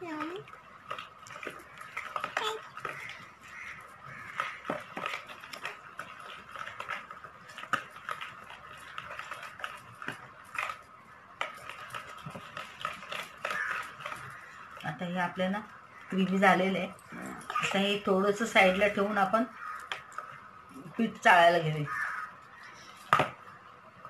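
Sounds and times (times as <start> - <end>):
utensil scraping plastic bowl: 0.9 - 20.4.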